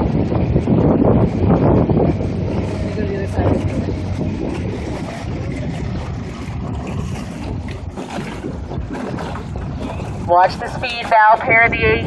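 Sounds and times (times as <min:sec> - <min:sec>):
water rushing past boat: 0:00.0 - 0:12.0
wind buffeting microphone: 0:00.0 - 0:12.0.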